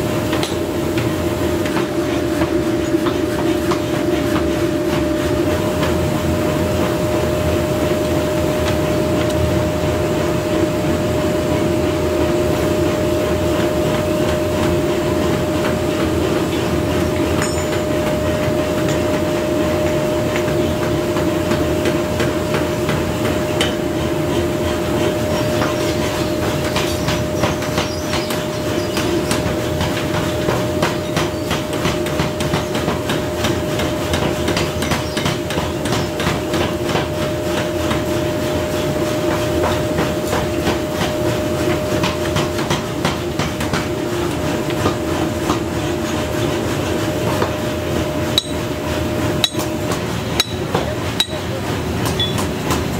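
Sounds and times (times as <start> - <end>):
machinery hum: 0.0 - 52.9.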